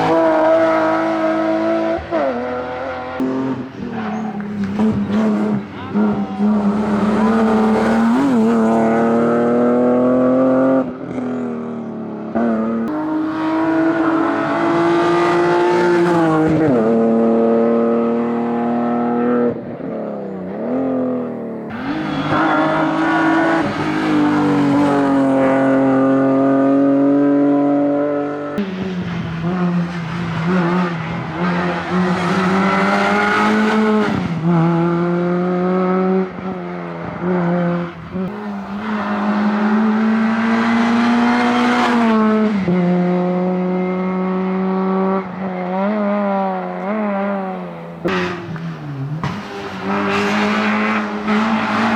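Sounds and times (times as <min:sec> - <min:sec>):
rally car engine at full throttle: 0:00.0 - 0:51.9
second rally car engine revving: 0:00.0 - 0:51.9.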